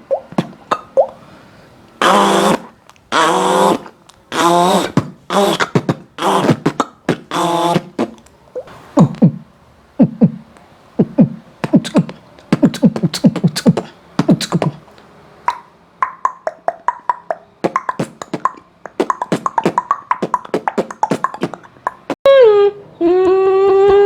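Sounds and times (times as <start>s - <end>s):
beatboxer mouth sound effects: 0.0s - 1.2s, 2.0s - 14.9s, 15.5s - 22.2s.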